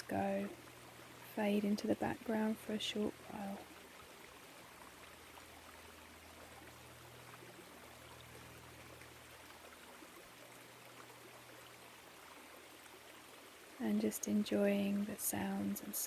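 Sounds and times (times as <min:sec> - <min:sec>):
faint low hum: 0:00.0 - 0:16.0
stream babbling: 0:00.0 - 0:16.0.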